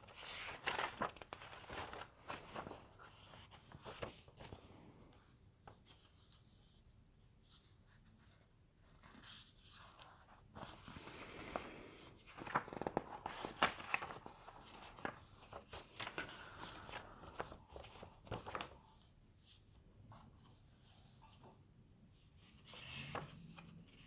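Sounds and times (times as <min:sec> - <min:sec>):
rustling and handling noises: 0:00.0 - 0:21.6.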